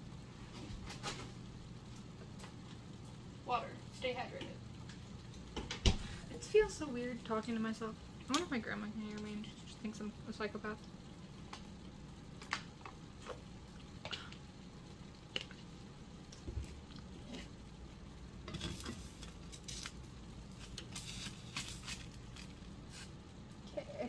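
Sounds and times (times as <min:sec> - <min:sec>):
eggs sizzling in a pan: 0:00.1 - 0:24.0.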